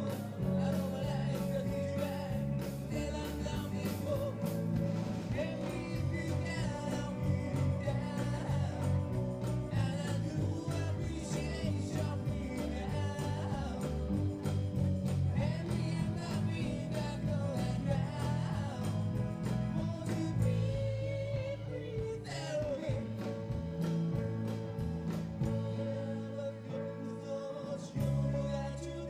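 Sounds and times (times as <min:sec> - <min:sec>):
person singing: 0:00.0 - 0:14.7, 0:15.3 - 0:23.9, 0:25.4 - 0:29.0
steady drum beat: 0:00.0 - 0:26.3
live band playing: 0:00.0 - 0:29.0.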